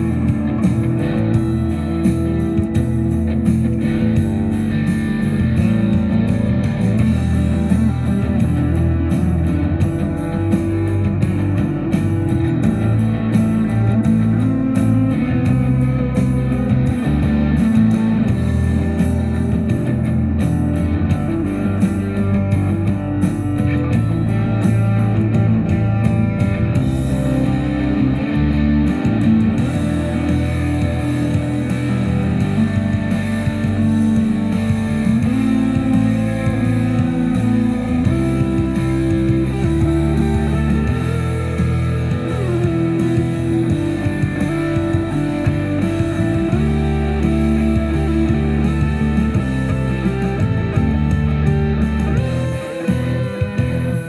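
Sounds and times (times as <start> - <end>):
guitar-led rock music: 0.0 - 54.0.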